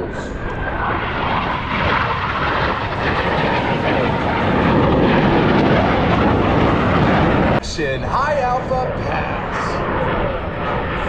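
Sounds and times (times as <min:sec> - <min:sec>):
jet engines roaring overhead: 0:00.0 - 0:11.0.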